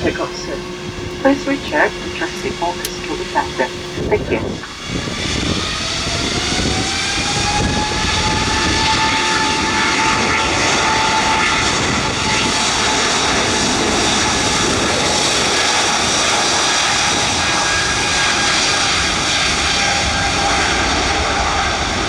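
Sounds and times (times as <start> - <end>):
jet engines spooling up: 0.0 - 22.0.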